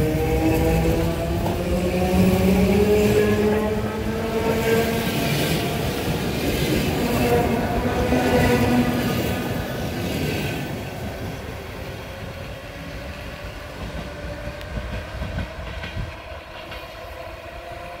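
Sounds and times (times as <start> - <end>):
electric train rumbling on track: 0.0 - 18.0.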